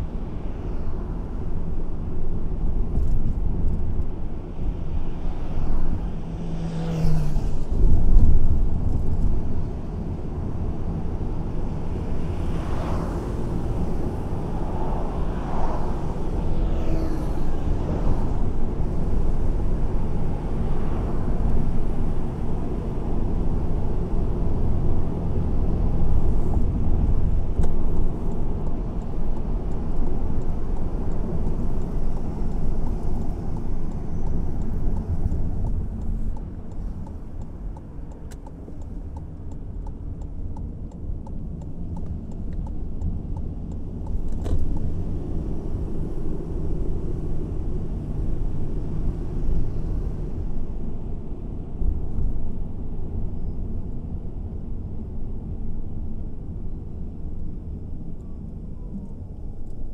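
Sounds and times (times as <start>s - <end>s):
car road and engine rumble: 0.0s - 59.9s
faint passing vehicles: 0.0s - 59.9s.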